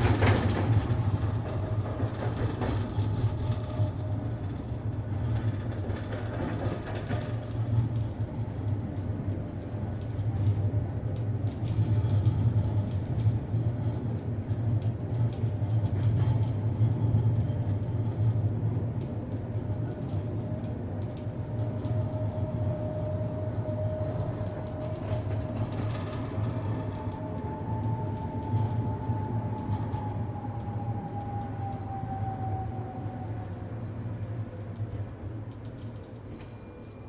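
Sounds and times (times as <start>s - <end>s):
tram rumbling: 0.0s - 37.0s.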